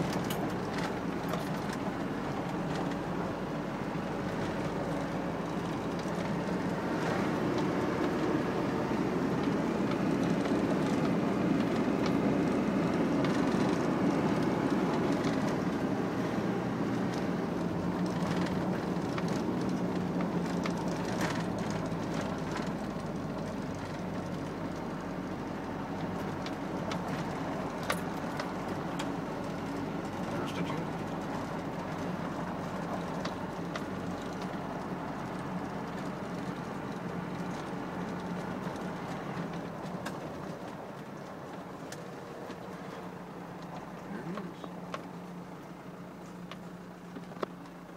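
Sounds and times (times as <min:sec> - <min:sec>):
vehicle running hum: 0:00.0 - 0:47.9.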